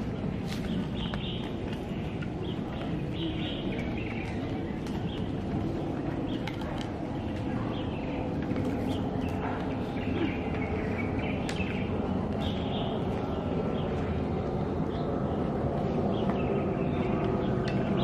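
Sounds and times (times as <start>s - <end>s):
small birds chirping: 0.0s - 18.0s
steady low background noise: 0.0s - 18.0s.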